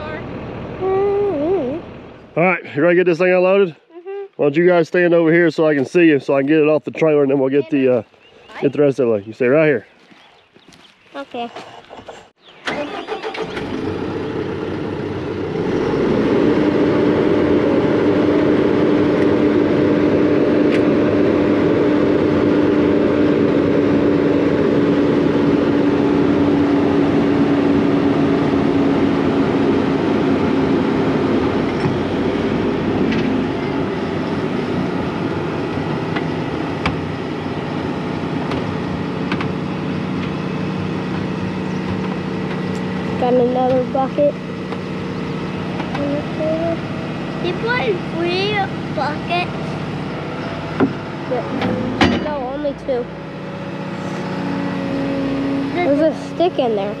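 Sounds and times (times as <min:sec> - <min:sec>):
excavator diesel engine droning: 0:00.0 - 0:03.7, 0:11.2 - 0:57.0.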